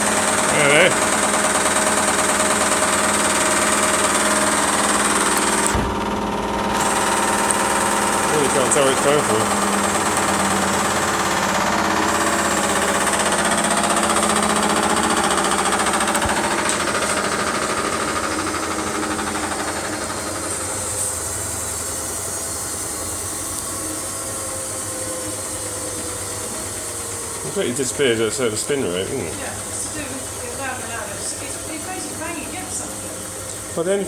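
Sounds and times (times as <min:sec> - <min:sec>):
washing machine spin banging rattle: 0:00.0 - 0:34.0.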